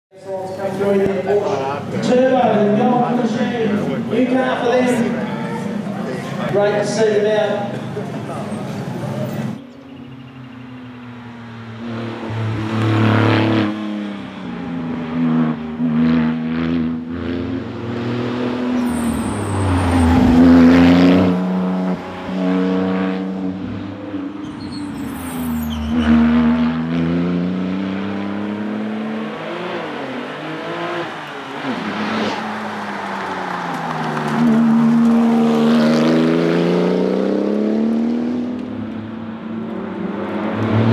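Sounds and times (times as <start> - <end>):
car engine accelerating and passing: 0.4 - 40.9.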